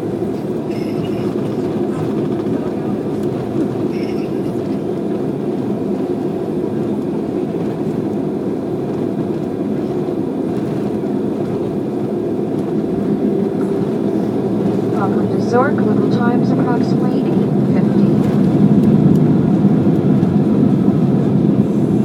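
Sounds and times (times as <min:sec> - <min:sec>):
jet airliner cabin rumble: 0:00.0 - 0:22.0.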